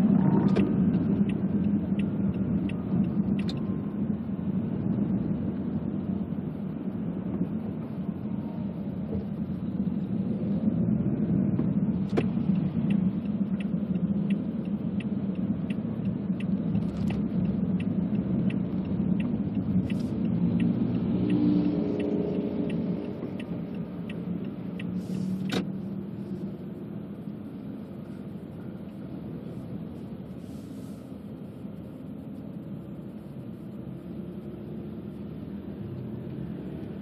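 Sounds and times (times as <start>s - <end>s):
turn signal ticking: 0.0s - 30.4s
road and engine rumble: 0.0s - 37.0s.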